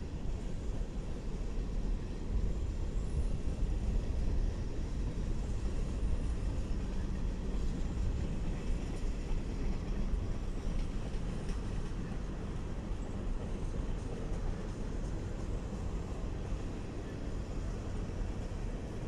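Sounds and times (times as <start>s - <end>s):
train cars rumbling on rails: 0.0s - 19.0s.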